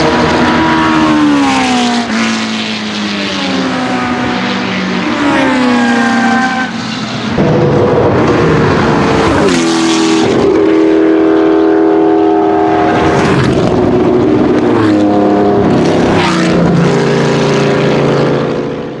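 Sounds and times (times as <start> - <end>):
racing car passing at speed: 0.0 - 19.0.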